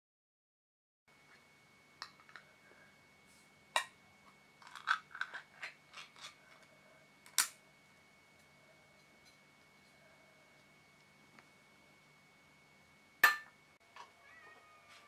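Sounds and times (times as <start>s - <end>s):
faint steady hum: 1.1s - 15.0s.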